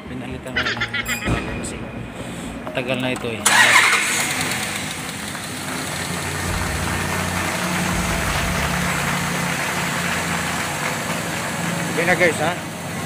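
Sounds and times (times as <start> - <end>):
car engine idling: 1.7 - 13.0.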